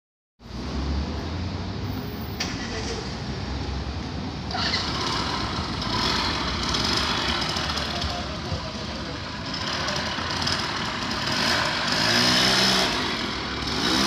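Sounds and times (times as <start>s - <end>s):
low rumble of vehicle engines: 0.4s - 14.0s.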